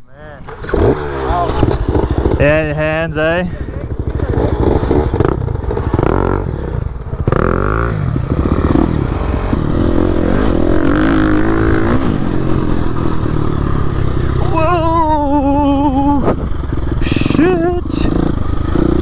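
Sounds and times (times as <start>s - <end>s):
dirt bike engine revving: 0.4s - 19.0s.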